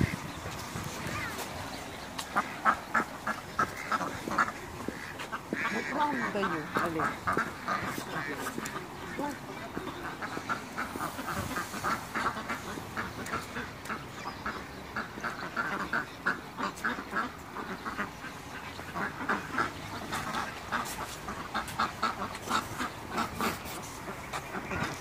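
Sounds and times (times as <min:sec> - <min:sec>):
ducks quacking: 0:00.0 - 0:25.0.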